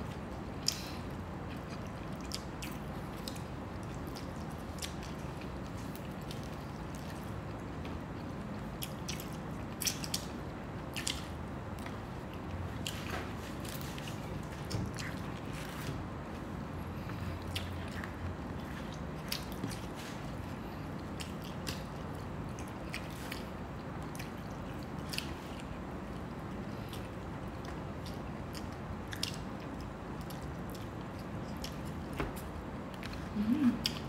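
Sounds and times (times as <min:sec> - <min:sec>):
person chewing: 0:00.0 - 0:16.0, 0:17.0 - 0:34.0.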